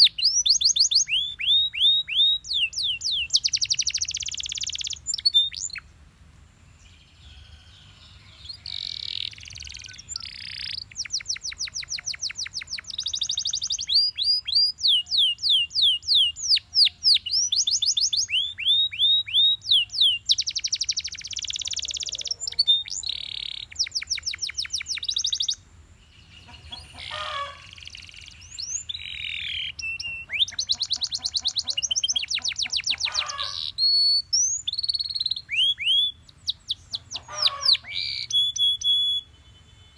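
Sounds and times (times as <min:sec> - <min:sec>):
canary singing trills: 0:00.0 - 0:05.9, 0:06.8 - 0:39.9.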